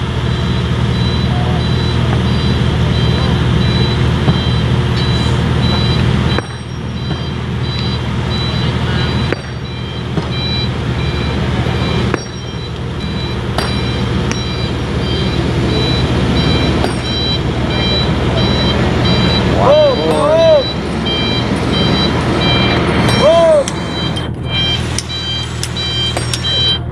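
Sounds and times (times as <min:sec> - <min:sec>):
excavator diesel engine running: 0:00.0 - 0:26.9
short high beeps: 0:00.4 - 0:26.9.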